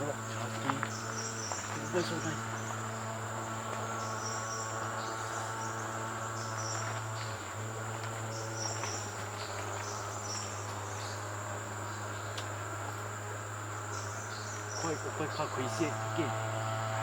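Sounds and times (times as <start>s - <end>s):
constant low hum: 0.0s - 17.0s
high-pitched insect drone: 0.0s - 17.0s.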